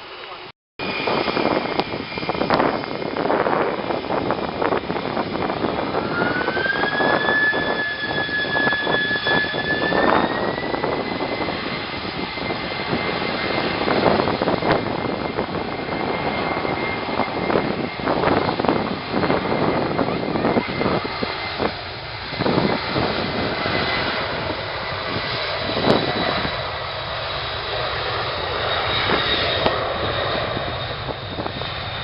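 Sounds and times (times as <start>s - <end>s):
jet engine whine rising: 0.0s - 32.0s
jet engines roaring: 0.0s - 32.0s.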